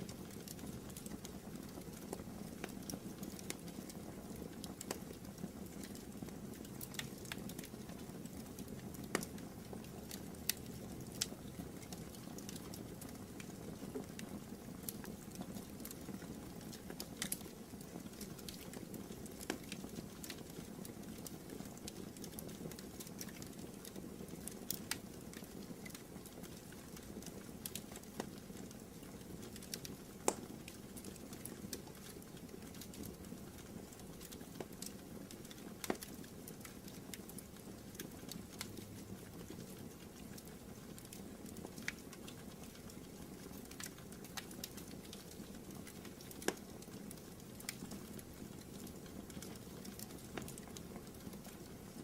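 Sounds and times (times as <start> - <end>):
fire crackling and popping: 0.0 - 52.0
low background noise: 0.0 - 52.0.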